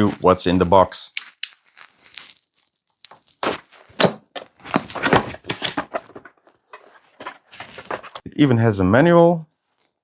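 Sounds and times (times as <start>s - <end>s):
packaging rustling and crinkling: 0.0s - 8.2s.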